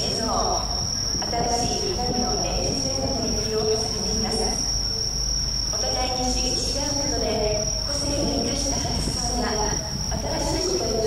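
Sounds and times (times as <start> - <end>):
people talking: 0.0 - 4.8, 5.7 - 11.0
crickets trilling: 0.0 - 11.0.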